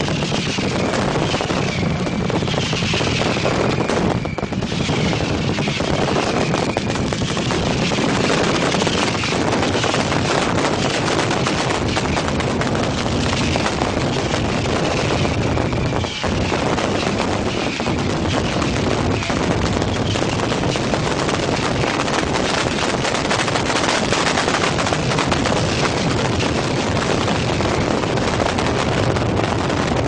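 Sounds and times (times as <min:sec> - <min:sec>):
firework whistles: 0:00.0 - 0:29.9
fireworks crackling bangs: 0:00.0 - 0:30.0.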